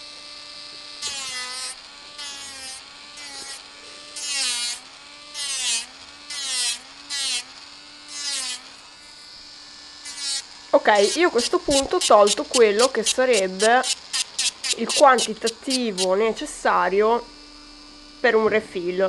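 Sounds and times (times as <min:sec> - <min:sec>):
electric nail drill whining: 0:00.0 - 0:19.0
sanding bit rasping on nail: 0:00.8 - 0:16.4.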